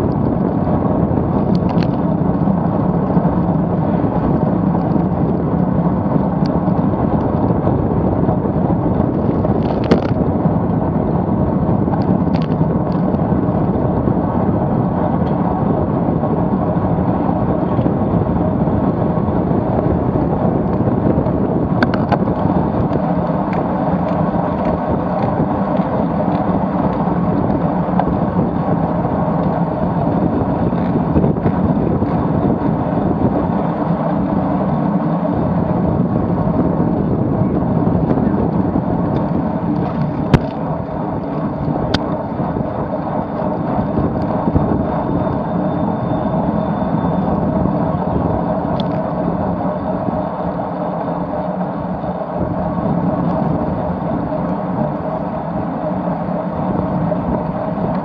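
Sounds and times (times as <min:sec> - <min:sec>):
tyre noise on road: 0:00.0 - 0:58.0
wind rushing over microphone: 0:00.0 - 0:58.0.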